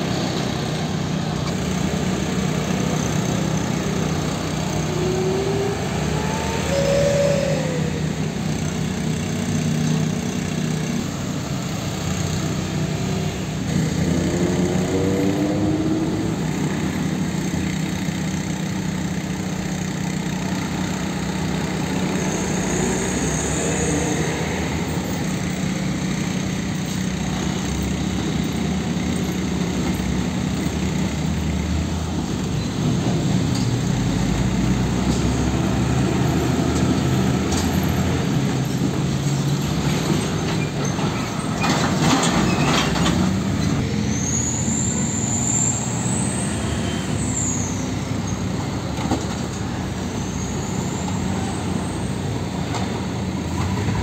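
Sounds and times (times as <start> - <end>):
motor scooters passing: 0.0 - 54.0
truck engines idling and pulling away: 0.0 - 54.0.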